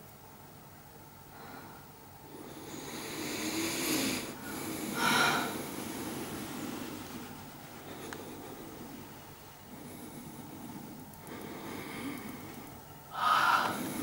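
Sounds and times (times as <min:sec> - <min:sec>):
person breathing heavily: 0:01.3 - 0:14.0.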